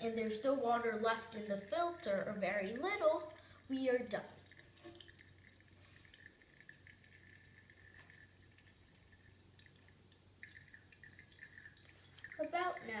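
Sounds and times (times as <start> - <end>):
coffee dripping: 0.0 - 13.0
low steady hum: 0.0 - 13.0.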